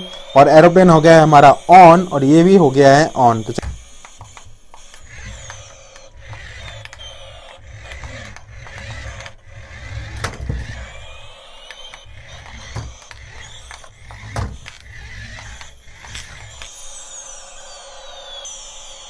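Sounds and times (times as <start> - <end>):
toy motor and gears whirring: 0.0 - 19.0.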